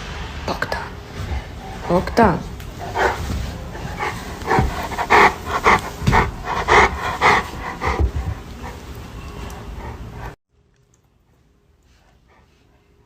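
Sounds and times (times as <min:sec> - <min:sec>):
dog panting: 0:01.0 - 0:10.4, 0:11.2 - 0:13.0.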